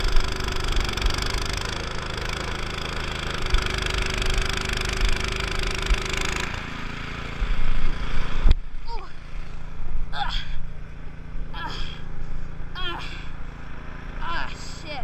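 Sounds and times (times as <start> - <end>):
small engine running roughly: 0.0 - 15.0.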